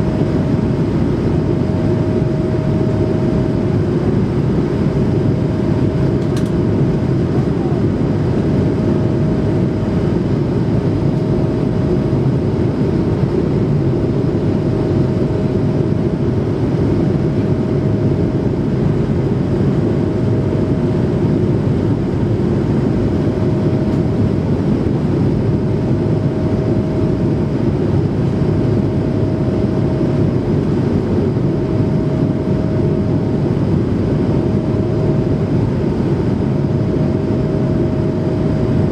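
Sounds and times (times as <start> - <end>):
aircraft cabin engine noise: 0.0 - 38.9
faint hum: 0.0 - 38.9.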